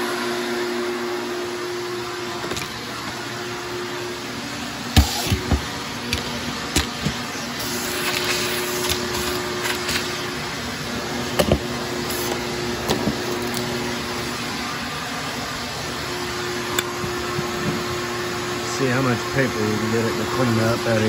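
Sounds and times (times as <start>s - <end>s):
wet dry vacuum running: 0.0s - 21.0s.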